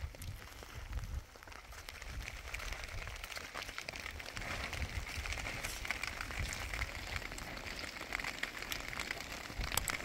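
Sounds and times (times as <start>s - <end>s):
rain pattering on plastic sheet: 0.0s - 10.0s.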